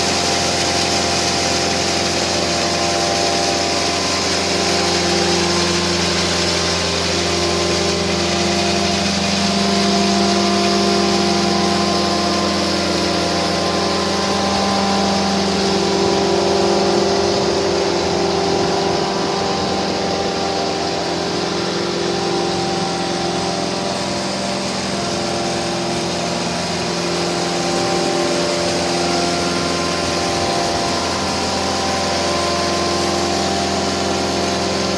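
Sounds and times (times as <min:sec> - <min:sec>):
wood chipper engine running: 0:00.0 - 0:34.9.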